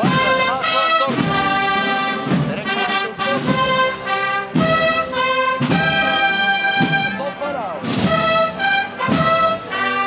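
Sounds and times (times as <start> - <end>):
brass band playing march: 0.0 - 10.0.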